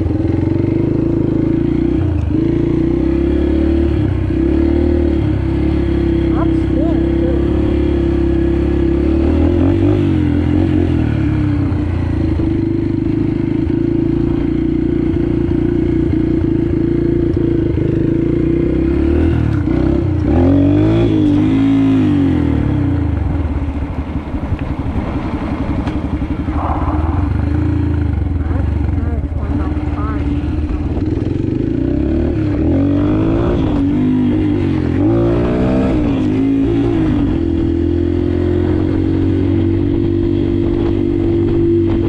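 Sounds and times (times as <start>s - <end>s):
motorbike engine running: 0.0s - 42.0s.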